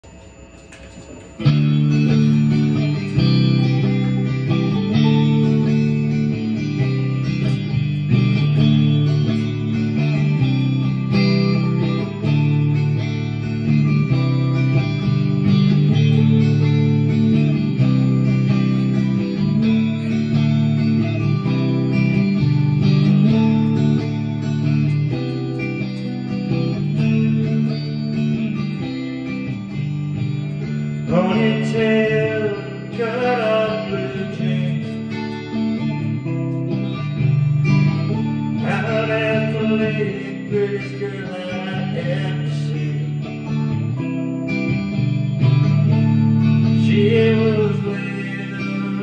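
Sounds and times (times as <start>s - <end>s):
electric guitar chords: 0.0s - 49.0s.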